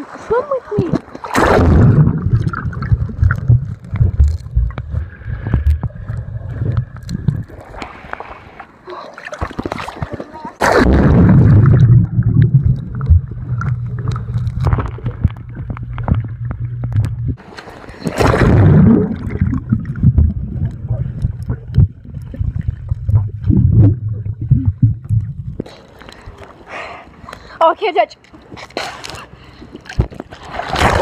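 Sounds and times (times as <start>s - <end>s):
muffled water sloshing and gurgling: 0.0s - 25.7s
water splash: 1.0s - 8.6s, 9.2s - 25.4s, 29.9s - 31.0s.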